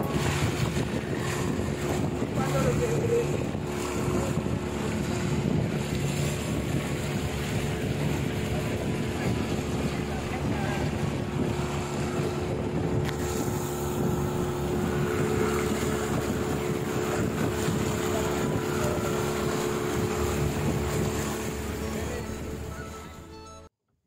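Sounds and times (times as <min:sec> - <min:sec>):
wind buffeting microphone: 0:00.0 - 0:23.0
water rushing past hull: 0:00.0 - 0:23.2
outboard motor running: 0:00.0 - 0:23.4.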